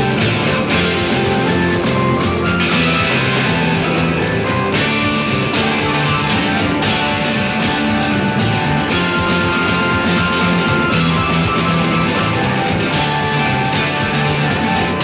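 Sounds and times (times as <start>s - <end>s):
blues-rock band playing live: 0.0s - 15.0s
electric guitar: 0.0s - 15.0s.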